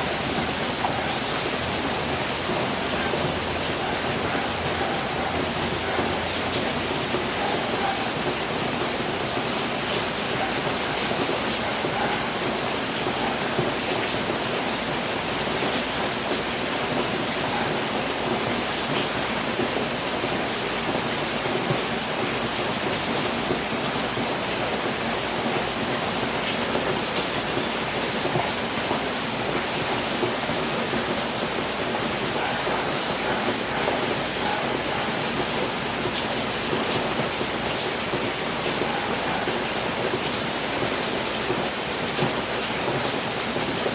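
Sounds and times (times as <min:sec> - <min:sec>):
rain on a roof: 0:00.0 - 0:43.9.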